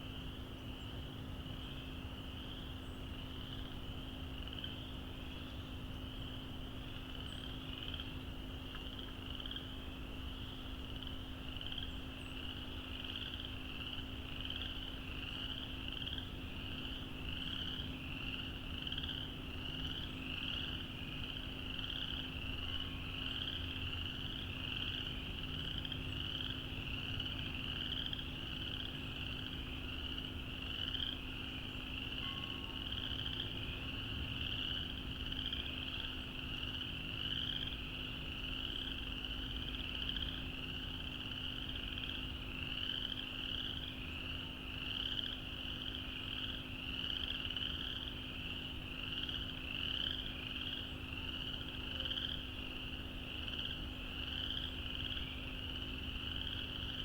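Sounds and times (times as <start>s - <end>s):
frogs chorus calling: 0.0s - 57.0s.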